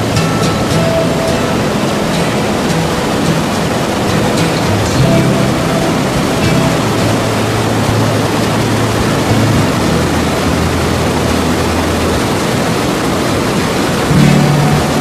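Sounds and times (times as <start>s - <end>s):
river rapids rushing over rocks: 0.0s - 15.0s.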